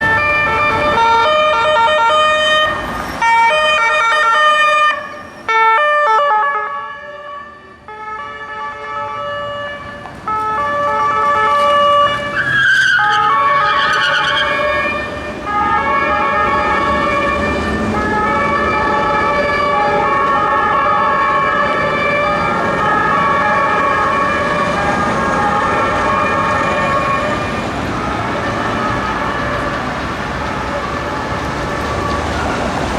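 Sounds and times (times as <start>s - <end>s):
engine and road noise: 0.0s - 32.9s
two-tone police sirens: 0.0s - 32.9s.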